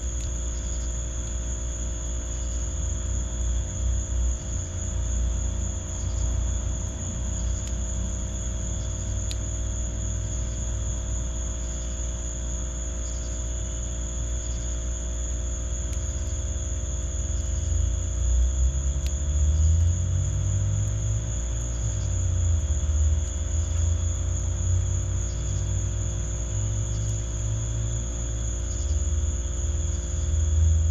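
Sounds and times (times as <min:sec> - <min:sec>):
insect chorus trilling: 0:00.0 - 0:30.9.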